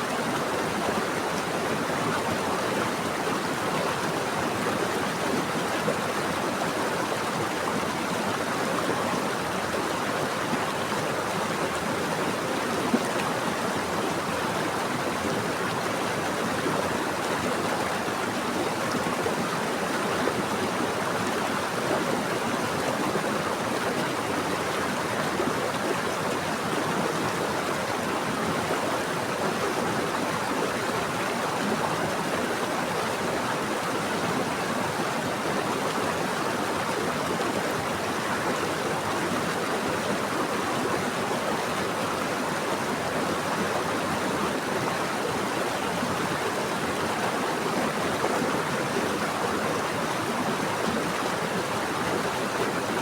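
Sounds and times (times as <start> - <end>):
stream water flowing: 0.0 - 53.0.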